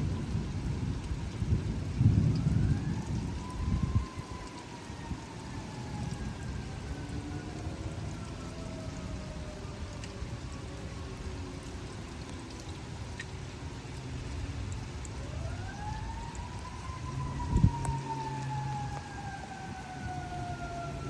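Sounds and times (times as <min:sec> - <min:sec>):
emergency siren wailing: 0:00.0 - 0:21.0
rain: 0:00.0 - 0:21.0.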